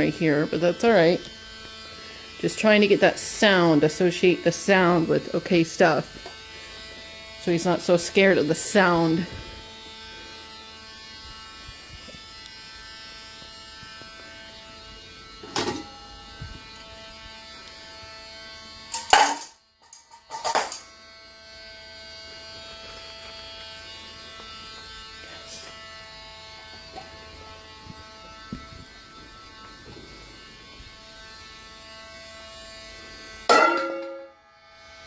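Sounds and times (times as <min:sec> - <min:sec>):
rotary tool motor buzzing: 0:00.0 - 0:33.5, 0:34.5 - 0:35.0.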